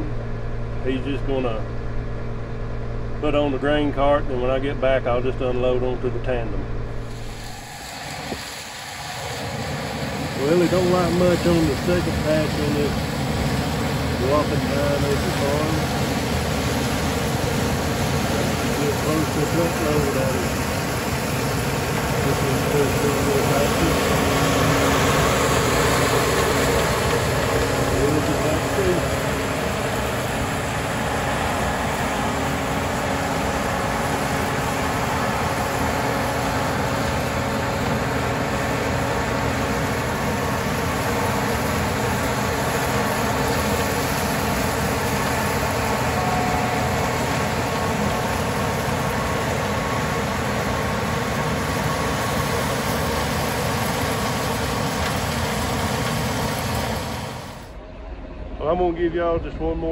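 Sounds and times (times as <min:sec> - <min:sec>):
tractor engine running: 0:00.0 - 0:57.8.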